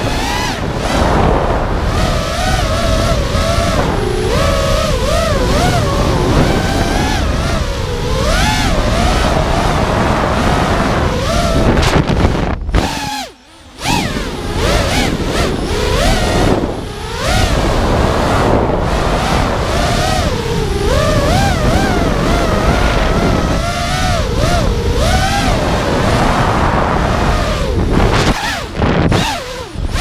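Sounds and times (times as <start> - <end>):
air rushing: 0.0 - 30.0
drone motors whining: 0.0 - 30.0.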